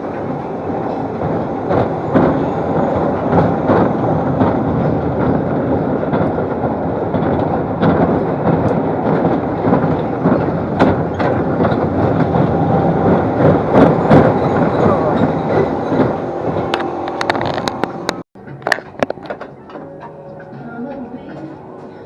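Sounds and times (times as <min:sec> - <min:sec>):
ride train rattling on track: 0:00.0 - 0:22.0
wheels clicking: 0:00.0 - 0:22.0.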